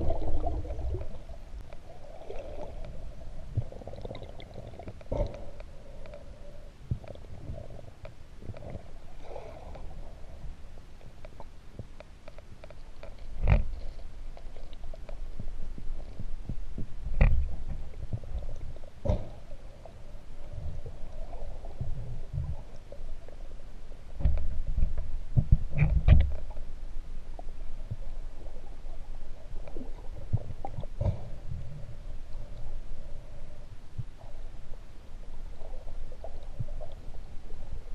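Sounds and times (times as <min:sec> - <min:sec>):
underwater rumbling of moving water: 0:00.0 - 0:37.9.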